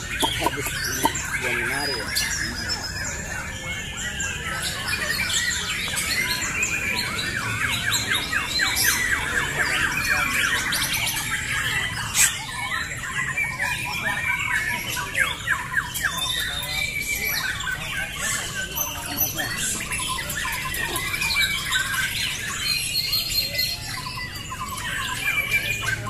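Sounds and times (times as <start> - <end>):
birds singing whistles and trills: 0.0 - 26.0.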